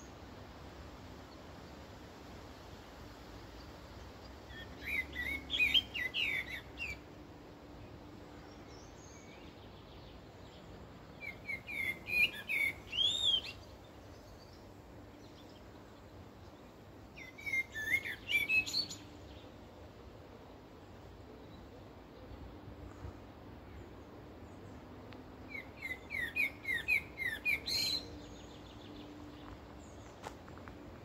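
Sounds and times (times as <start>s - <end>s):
faint background noise: 0.0s - 31.0s
songbird singing: 0.0s - 31.0s.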